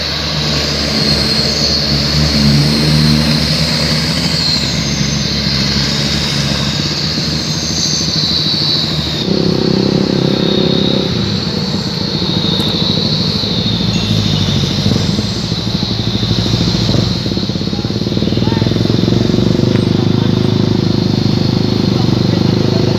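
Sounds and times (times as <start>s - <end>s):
truck engine through loud exhaust: 0.0s - 22.9s
steady high whine: 0.1s - 22.9s.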